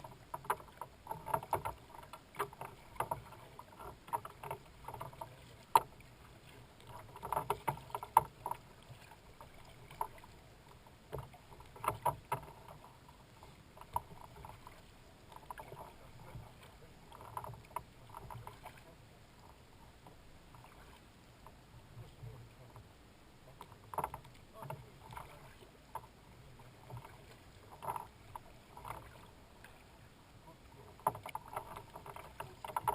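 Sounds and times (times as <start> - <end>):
kayak paddle splashing in water: 0.0 - 19.5, 20.5 - 21.2, 23.4 - 32.9.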